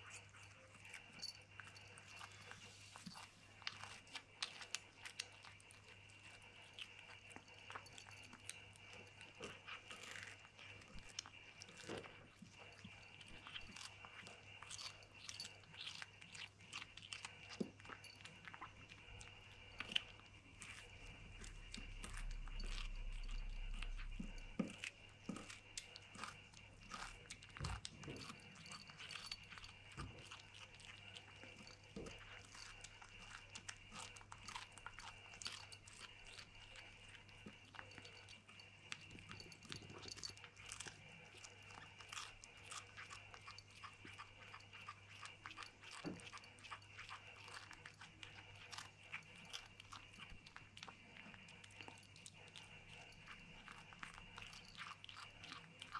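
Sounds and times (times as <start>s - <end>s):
kitten chewing: 0.0s - 55.9s.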